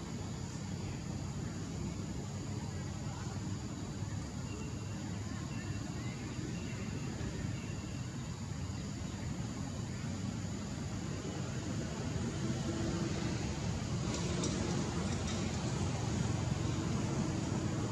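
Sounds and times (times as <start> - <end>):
low outdoor rumble: 0.0 - 17.9.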